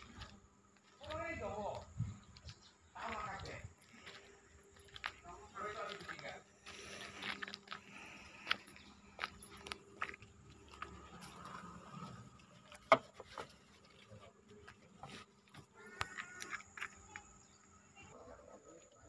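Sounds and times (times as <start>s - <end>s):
footsteps on gravel: 0.0s - 18.2s.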